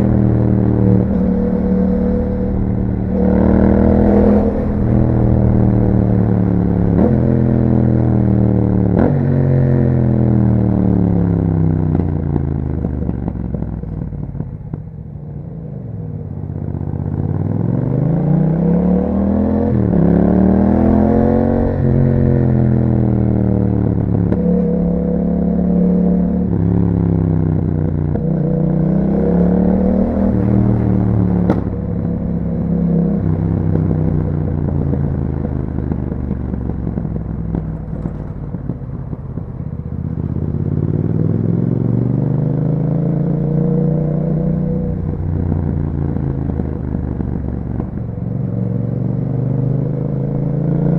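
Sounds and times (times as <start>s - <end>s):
motorcycle engine revving: 0.0s - 15.0s, 16.5s - 50.9s.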